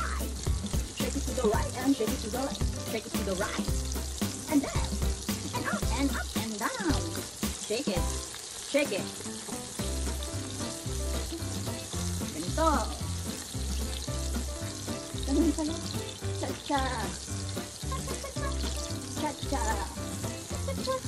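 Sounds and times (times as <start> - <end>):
background music with beat: 0.0 - 8.4, 9.6 - 21.0
food deep-frying in oil: 0.0 - 21.0.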